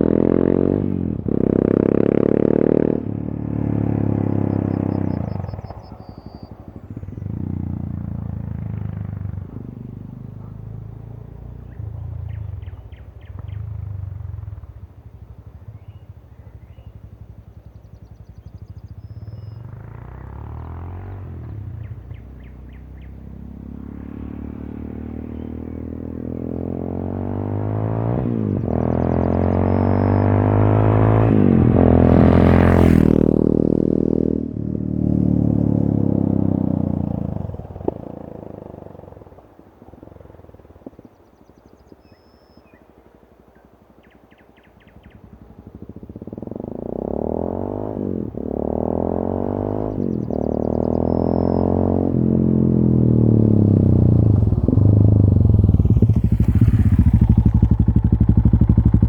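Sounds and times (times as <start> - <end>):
motorcycle accelerating past: 0.0 - 59.0.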